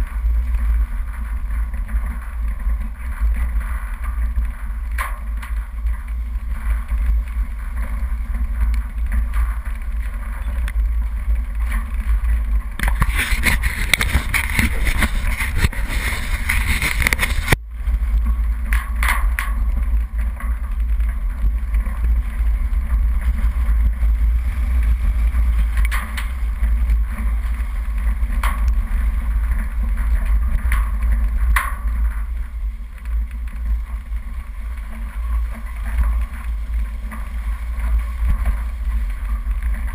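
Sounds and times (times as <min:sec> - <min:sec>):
engine and drivetrain rumble: 0:00.0 - 0:39.9
rushing noise: 0:00.0 - 0:39.9.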